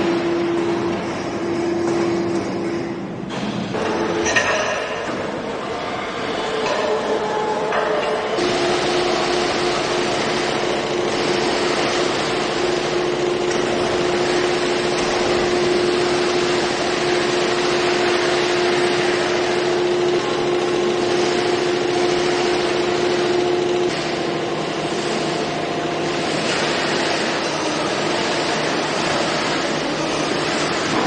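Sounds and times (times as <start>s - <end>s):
machinery running: 0.0s - 31.0s
steady machine whine: 0.0s - 31.0s.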